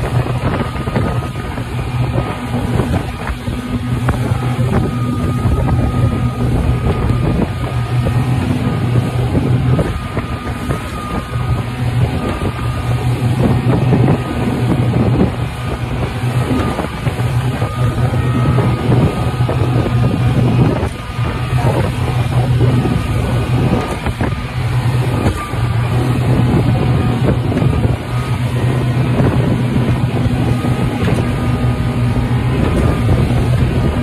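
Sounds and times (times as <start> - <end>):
speedboat engine drone: 0.0 - 34.0
wind on microphone: 0.0 - 34.0.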